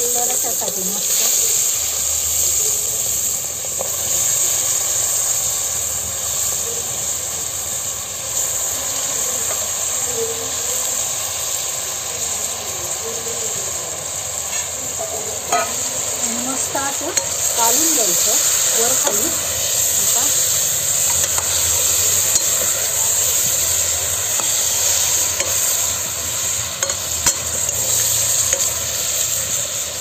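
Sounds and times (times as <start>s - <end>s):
chicken frying in hot oil: 0.0s - 30.0s.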